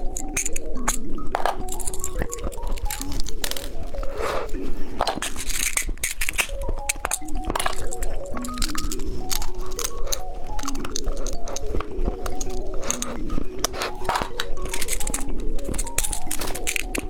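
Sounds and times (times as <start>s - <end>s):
candy crunching: 0.0s - 17.0s
light background music: 0.0s - 17.0s.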